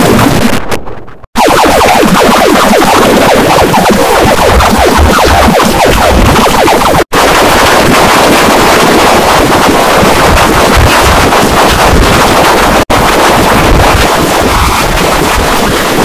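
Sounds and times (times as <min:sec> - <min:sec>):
harsh distorted noise: 0:00.0 - 0:16.0.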